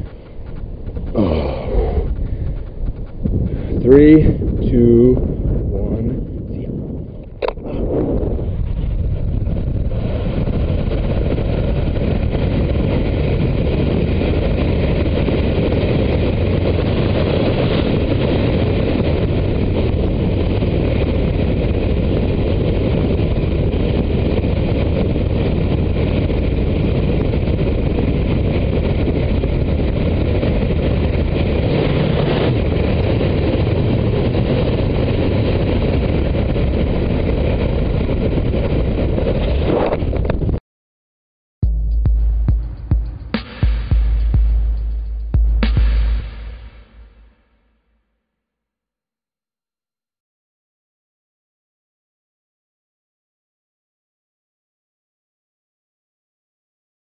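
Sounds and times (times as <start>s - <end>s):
wind roar on microphone: 0.0s - 40.6s, 41.6s - 47.6s.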